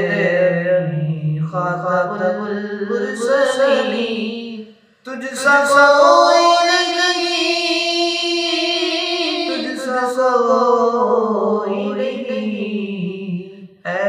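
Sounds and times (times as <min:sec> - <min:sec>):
man singing long notes: 0:00.0 - 0:13.2.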